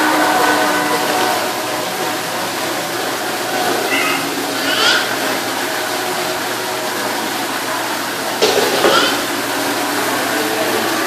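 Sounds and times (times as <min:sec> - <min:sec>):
crowd chatter: 0:00.0 - 0:11.0
steady hiss: 0:00.0 - 0:11.0.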